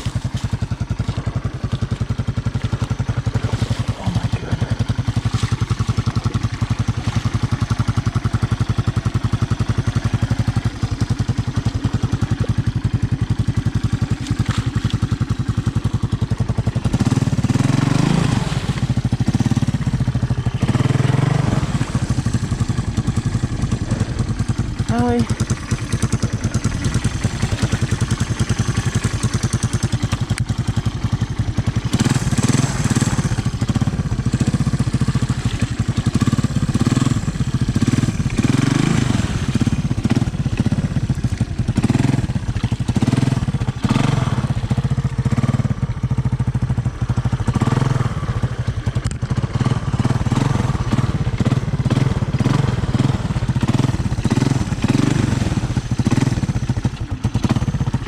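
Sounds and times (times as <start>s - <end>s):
engine revving under load: 0.0s - 58.0s.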